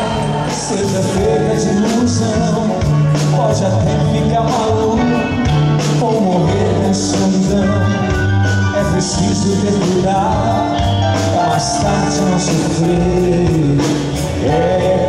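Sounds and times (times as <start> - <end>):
bass line: 0.0 - 15.0
drum kit beats: 0.0 - 15.0
man singing: 0.0 - 15.0.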